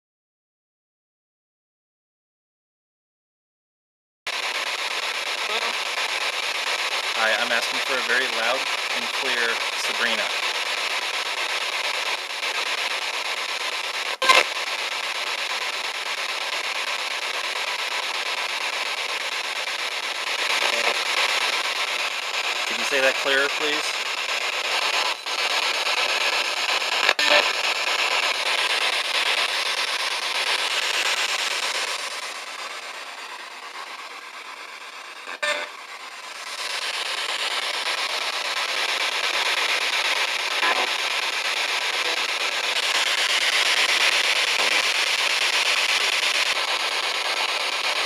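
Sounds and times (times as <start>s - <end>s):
radio static: 4.3s - 48.0s.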